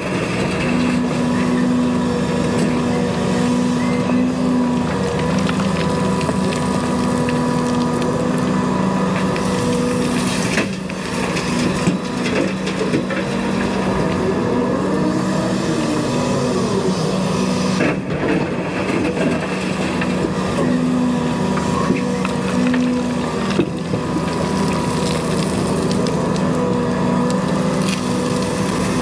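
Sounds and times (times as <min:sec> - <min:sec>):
excavator diesel engine running: 0:00.0 - 0:29.0
hydraulic whine: 0:00.4 - 0:29.0.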